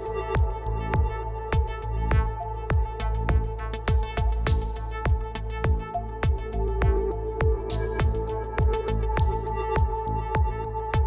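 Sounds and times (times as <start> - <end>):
deep kick drum: 0.0 - 11.0.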